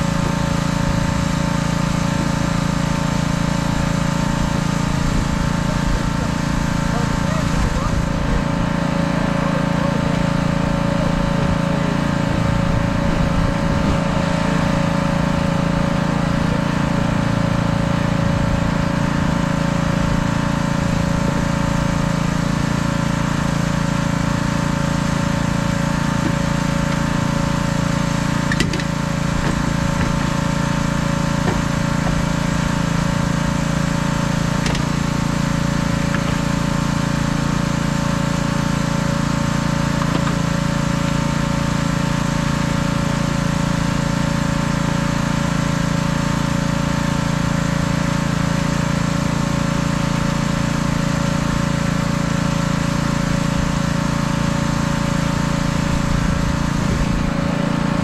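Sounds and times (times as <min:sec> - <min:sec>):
small engine running steadily: 0:00.0 - 0:58.0.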